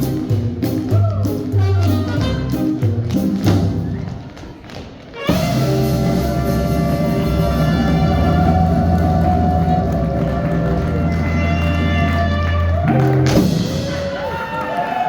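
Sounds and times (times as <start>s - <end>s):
swing band music: 0.0s - 4.3s, 4.9s - 14.6s.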